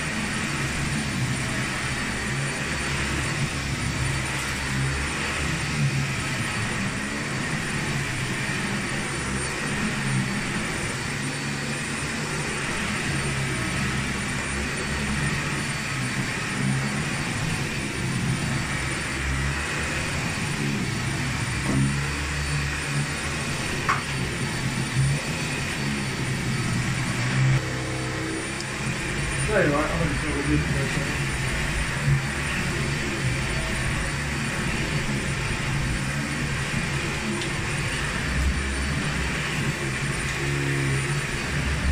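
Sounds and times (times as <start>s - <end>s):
vacuum cleaner running on carpet: 0.0s - 41.9s.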